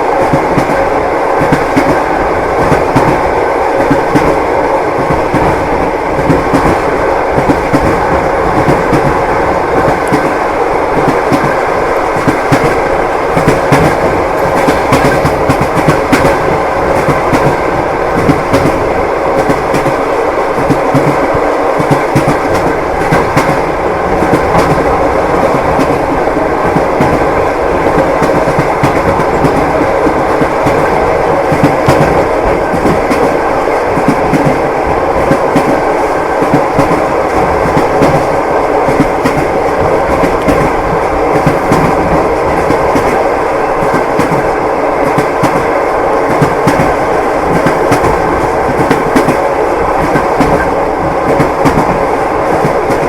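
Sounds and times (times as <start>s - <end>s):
passenger carriage rumble: 0.0s - 53.0s
train wheels clattering on rails: 0.0s - 53.0s.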